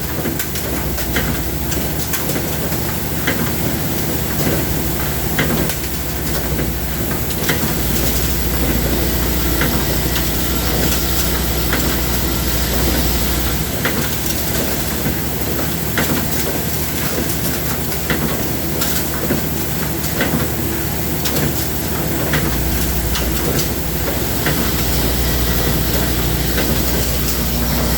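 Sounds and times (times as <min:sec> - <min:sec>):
machinery hiss and rumble: 0:00.0 - 0:27.9.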